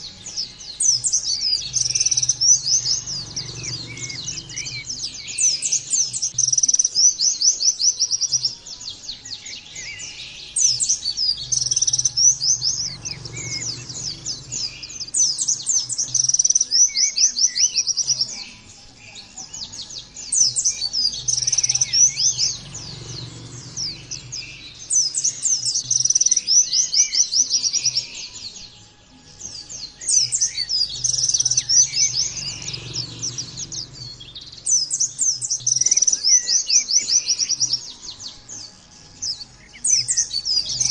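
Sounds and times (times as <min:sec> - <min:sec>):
bird trilling song: 0:00.0 - 0:40.9.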